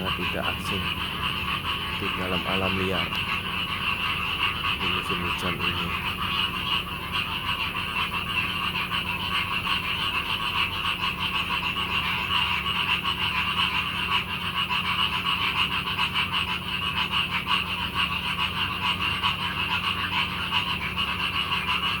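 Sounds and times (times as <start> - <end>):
frog chorus: 0.0 - 22.0.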